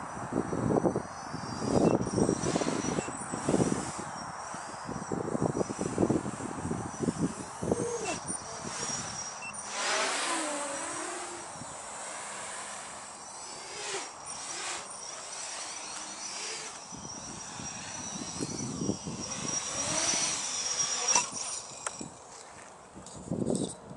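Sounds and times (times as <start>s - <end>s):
model aircraft motors whining: 0.0s - 23.9s.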